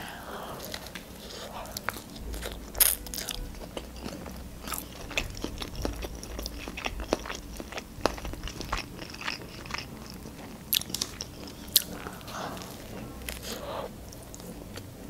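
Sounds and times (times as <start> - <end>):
chewing with wet clicks: 0.7 - 14.9.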